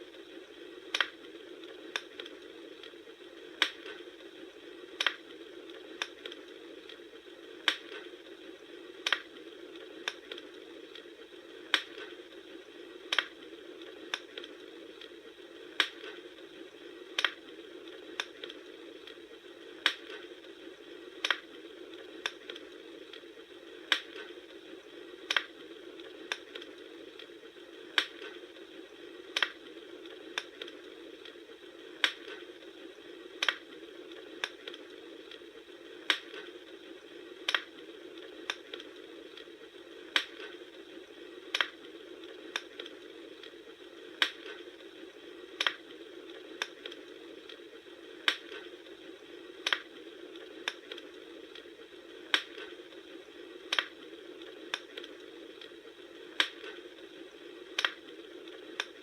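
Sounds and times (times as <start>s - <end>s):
bonfire crackling pops: 0.0s - 59.0s
bonfire hissing: 0.0s - 59.0s.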